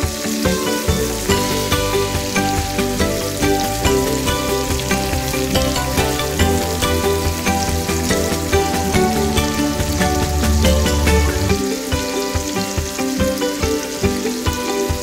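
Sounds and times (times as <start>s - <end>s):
background music with a beat: 0.0s - 15.0s
food sizzling in a frying pan: 0.0s - 15.0s.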